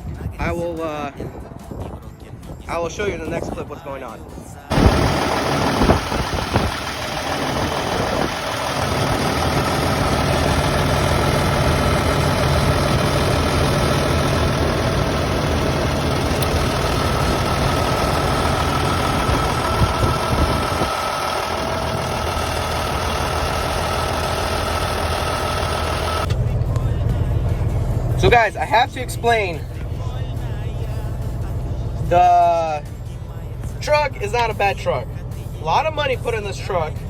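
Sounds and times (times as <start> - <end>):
diesel truck engine idling: 4.6 - 37.0.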